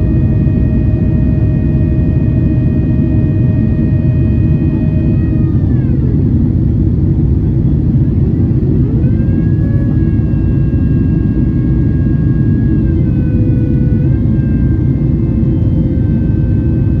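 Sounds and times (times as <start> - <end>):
faint engine whine: 0.0 - 17.0
jet engine rumble in cabin: 0.0 - 17.0.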